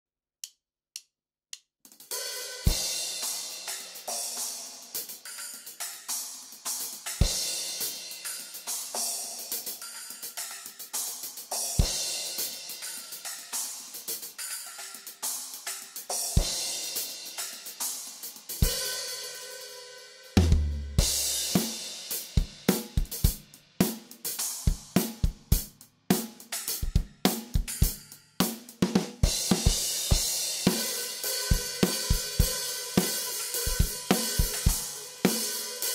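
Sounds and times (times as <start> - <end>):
drum kit playing: 1.9 - 35.9
cymbals: 2.1 - 35.9.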